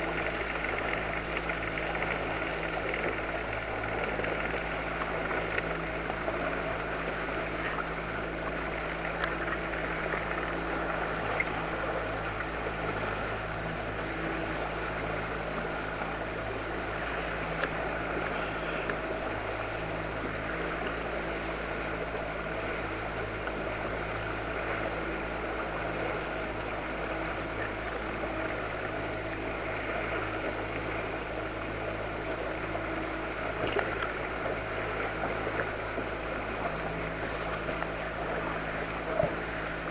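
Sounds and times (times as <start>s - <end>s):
outboard motor running: 0.0s - 39.9s
water rushing along hull: 0.0s - 39.9s.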